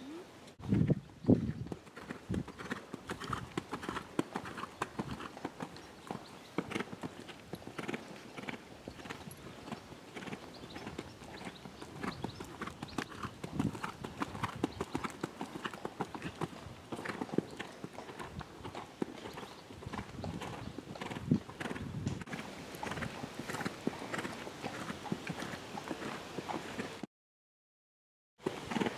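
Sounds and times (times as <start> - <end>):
horse hooves cantering on sand: 0.6 - 27.0, 28.4 - 28.9.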